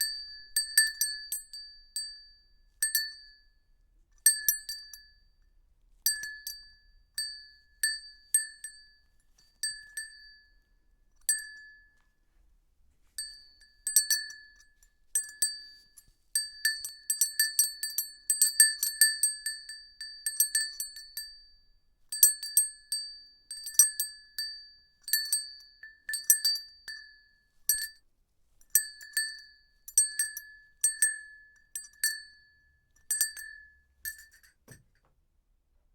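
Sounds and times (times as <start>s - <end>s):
small high-pitched bell dinging: 0.0s - 12.3s, 13.1s - 28.0s, 28.6s - 35.1s.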